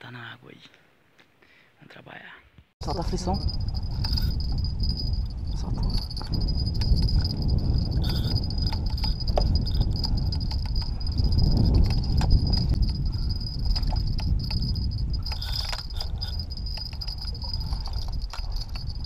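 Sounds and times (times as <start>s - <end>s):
low rumbling noise: 2.8s - 19.0s.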